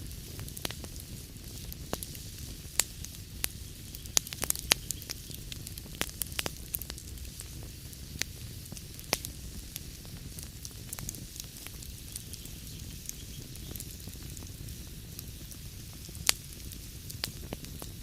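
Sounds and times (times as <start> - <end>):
fireplace fire crackling and popping: 0.0 - 18.0
low fire rumble and hiss: 0.0 - 18.0.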